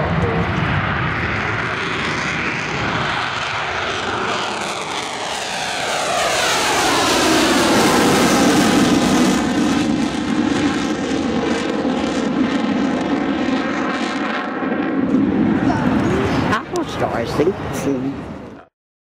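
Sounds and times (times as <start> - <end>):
jet passing whoosh: 0.0 - 18.5
fighter jet engines roaring: 0.0 - 18.7.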